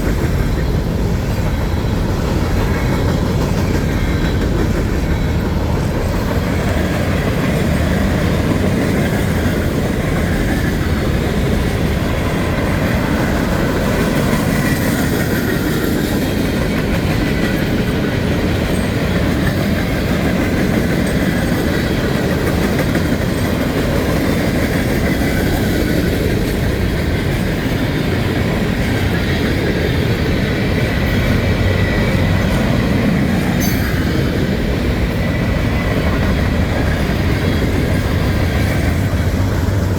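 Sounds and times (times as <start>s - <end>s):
railroad cars rumbling: 0.0s - 39.9s
wheels clacking over rail joints: 0.0s - 39.9s.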